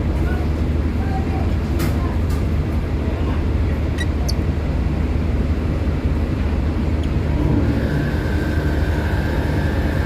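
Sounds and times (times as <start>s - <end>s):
ferry engines droning: 0.0s - 10.0s.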